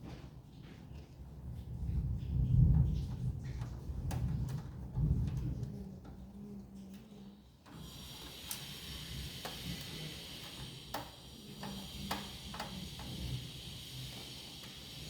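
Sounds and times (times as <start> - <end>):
faint steady hiss: 1.5 - 15.0.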